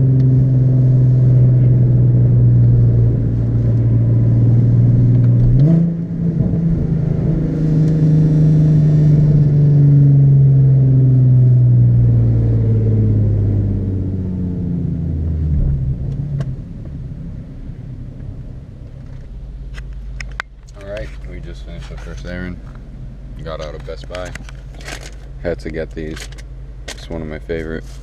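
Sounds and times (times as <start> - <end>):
car engine: 0.0 - 28.0.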